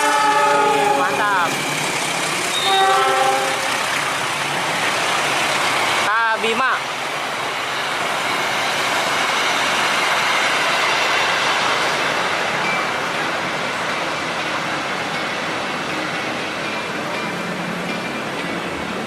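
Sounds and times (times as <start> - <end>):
train wheels rushing on rails: 0.0 - 19.0.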